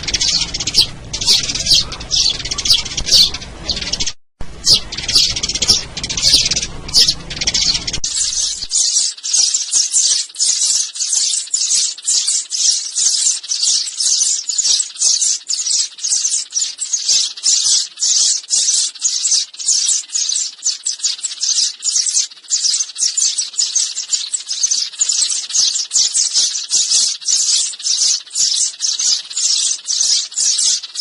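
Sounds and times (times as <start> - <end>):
sparrows chirping: 0.0 - 31.0.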